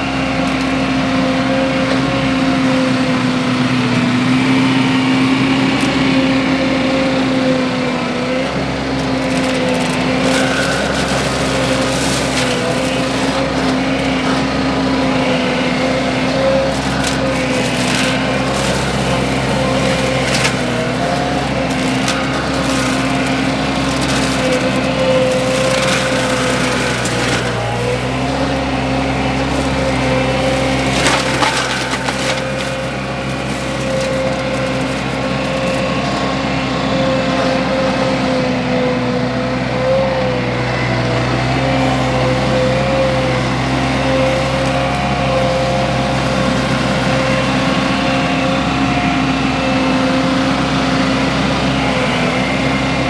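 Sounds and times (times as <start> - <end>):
forestry mulcher running: 0.0 - 53.0
wood splintering and crackling: 0.0 - 53.0.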